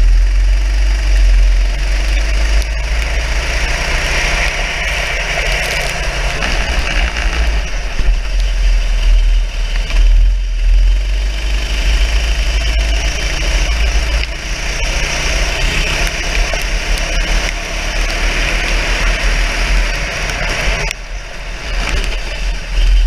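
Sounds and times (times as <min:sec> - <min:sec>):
go-kart engine running: 0:00.0 - 0:23.0.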